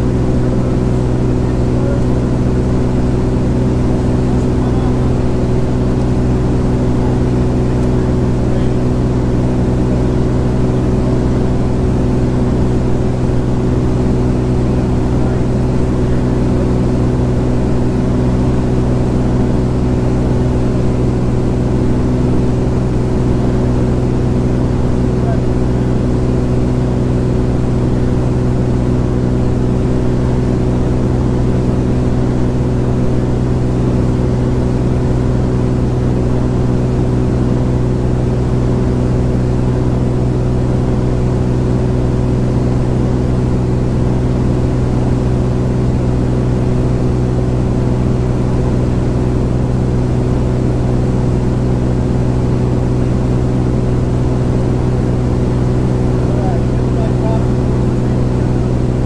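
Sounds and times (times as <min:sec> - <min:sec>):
propeller aircraft engine drone: 0:00.0 - 0:59.0.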